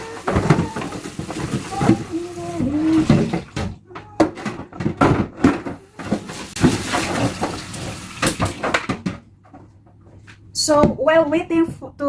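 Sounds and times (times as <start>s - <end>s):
food packages knocking and clattering: 0.0s - 10.2s.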